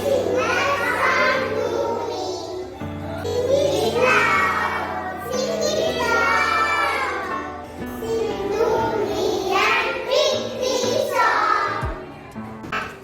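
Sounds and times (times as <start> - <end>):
children singing together: 0.0 - 12.1
background music: 0.0 - 13.0.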